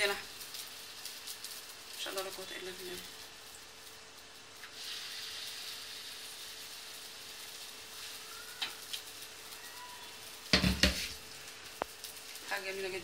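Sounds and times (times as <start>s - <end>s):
batter sizzling on a griddle: 0.0s - 13.0s.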